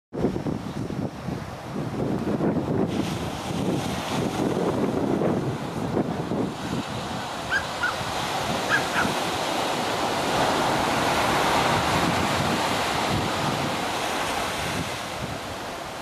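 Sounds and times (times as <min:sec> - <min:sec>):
wind buffeting microphone: 0:00.1 - 0:16.0
surf breaking on beach: 0:00.2 - 0:16.0.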